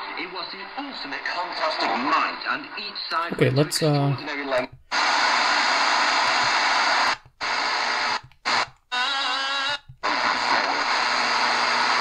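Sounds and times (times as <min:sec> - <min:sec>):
shortwave radio static hissing: 0:00.0 - 0:12.0.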